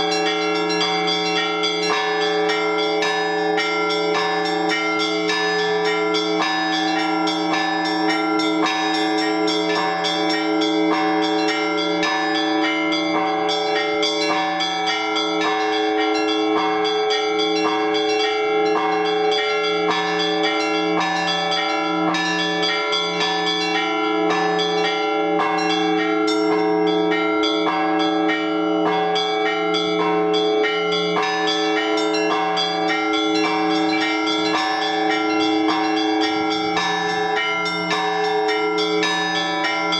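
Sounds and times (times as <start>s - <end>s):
large bells ringing: 0.0s - 39.9s
low bell: 0.0s - 39.9s
small bells chiming rapidly: 0.0s - 39.9s.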